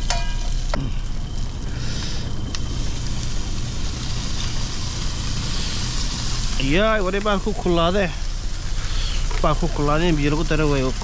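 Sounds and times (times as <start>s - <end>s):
diesel engine idling: 0.0s - 11.0s
food frying in a pan: 0.0s - 11.0s.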